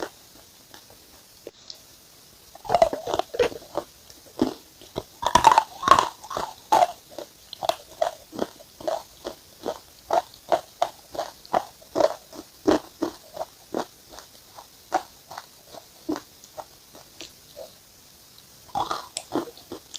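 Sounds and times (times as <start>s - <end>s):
person chewing crunchy food: 0.0s - 1.8s, 2.5s - 17.8s, 18.4s - 19.9s.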